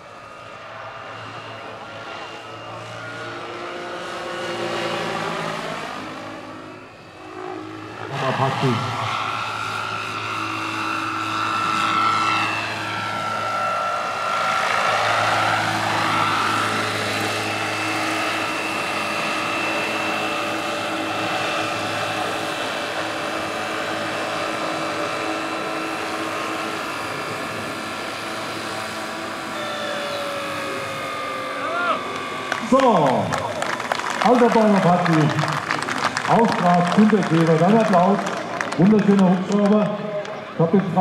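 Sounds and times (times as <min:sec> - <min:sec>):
helicopter rotor noise: 0:00.0 - 0:41.0
model helicopter motor whine: 0:00.0 - 0:41.0.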